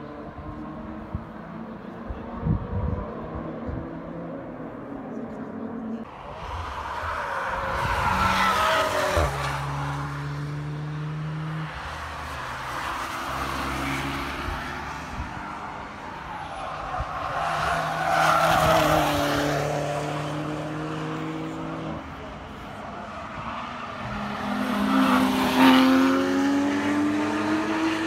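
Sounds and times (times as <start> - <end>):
car engines driving past: 0.0 - 28.0.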